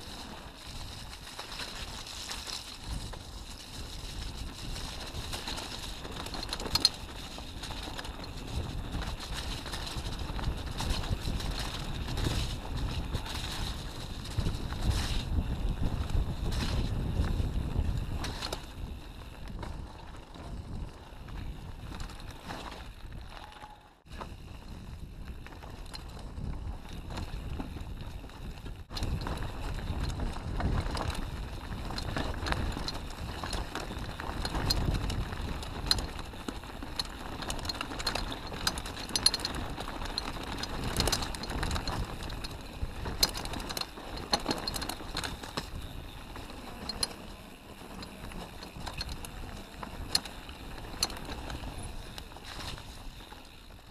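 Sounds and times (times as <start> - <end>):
bike clicks and knocks: 0.0 - 53.9
wind rush on microphone: 0.0 - 53.9.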